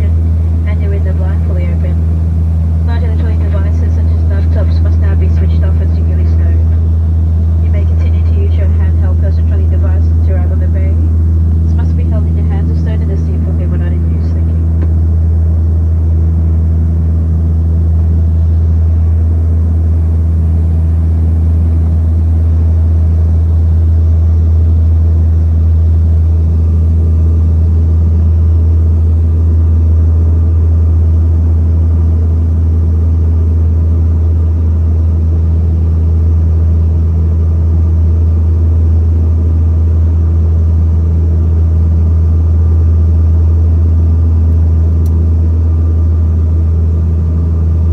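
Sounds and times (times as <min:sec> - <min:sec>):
propeller plane cabin drone: 0:00.0 - 0:47.9.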